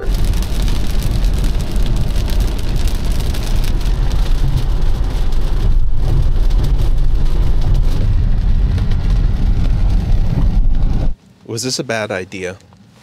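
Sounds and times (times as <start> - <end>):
tyres hissing on wet road: 0.0 - 12.2
deep road rumble: 0.0 - 13.0.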